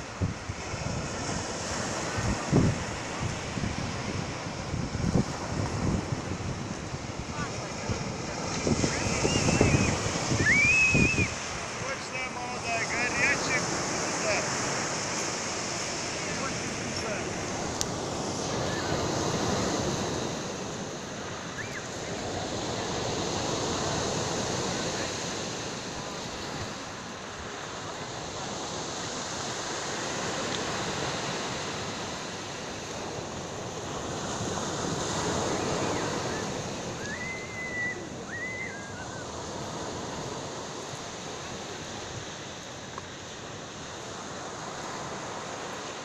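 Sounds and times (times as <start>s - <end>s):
waves breaking on pebble beach: 0.0s - 46.0s.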